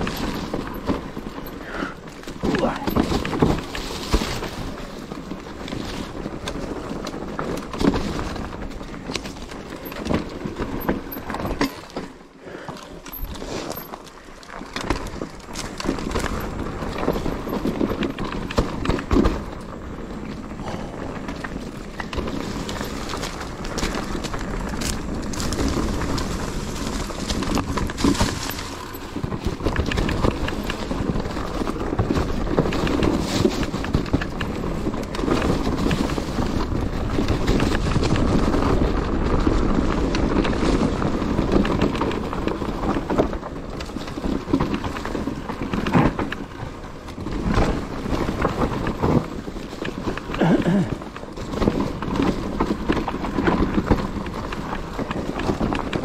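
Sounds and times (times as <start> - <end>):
bike knocking and rattling: 0.0 - 56.0
tyres clattering on rocks and gravel: 0.0 - 56.0.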